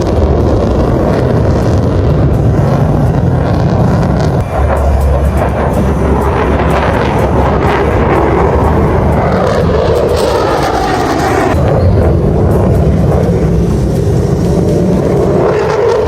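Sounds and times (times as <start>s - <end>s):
aircraft engine rushing: 0.0s - 16.0s.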